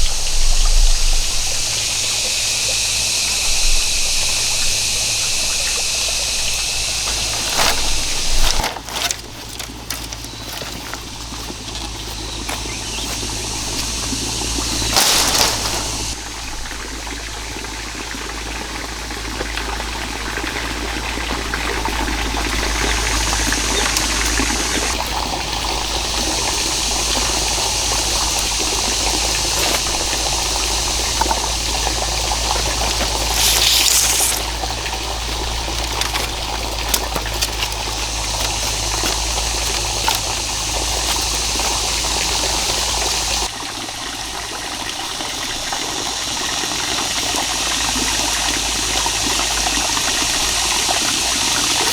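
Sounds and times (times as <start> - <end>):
running water: 0.0 - 51.9
water gush or splash: 0.0 - 51.9.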